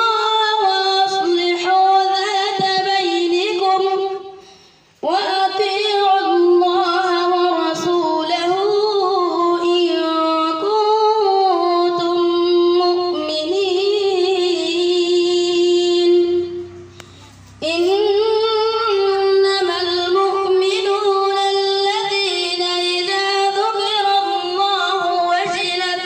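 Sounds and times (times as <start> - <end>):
boy reciting melodically: 0.0 - 26.0.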